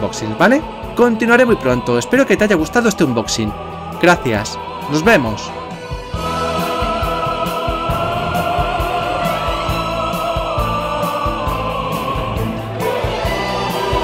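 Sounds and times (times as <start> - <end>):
background music with steady beat: 0.0 - 14.0.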